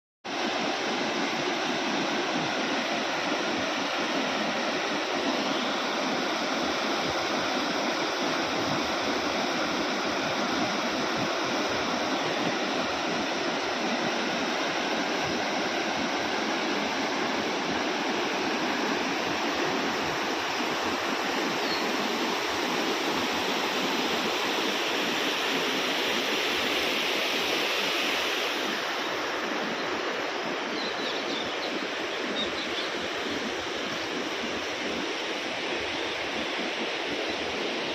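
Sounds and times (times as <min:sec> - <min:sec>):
stream water flowing: 0:00.3 - 0:37.9.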